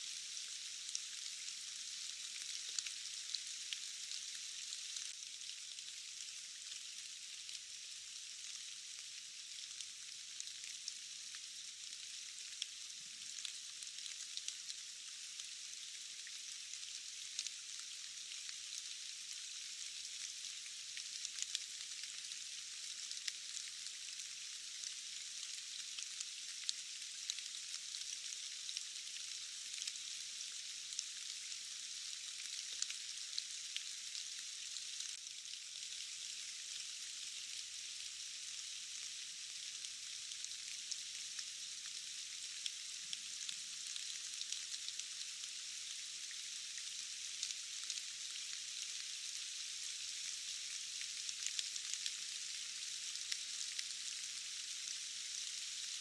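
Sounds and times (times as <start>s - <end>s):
steady rain falling: 0.0s - 56.0s
raindrops ticking on leaves: 0.2s - 56.0s.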